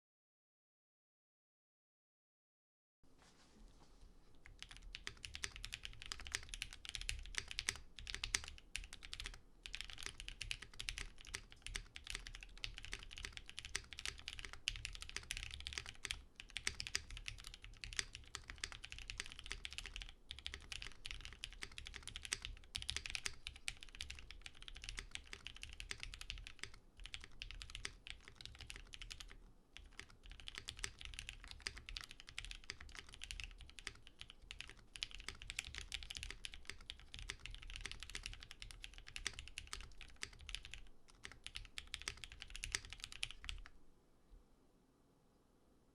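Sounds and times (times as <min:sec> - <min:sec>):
fast typing on mechanical keyboard: 0:04.5 - 0:43.7.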